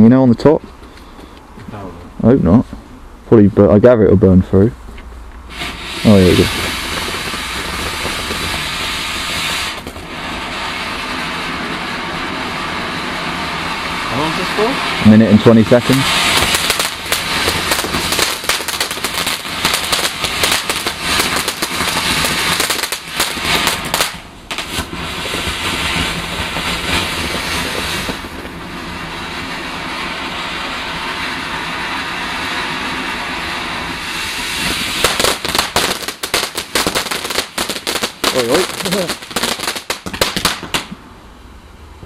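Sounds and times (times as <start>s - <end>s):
firework crackling: 5.4s - 41.8s
firework fountain hissing: 5.4s - 42.0s.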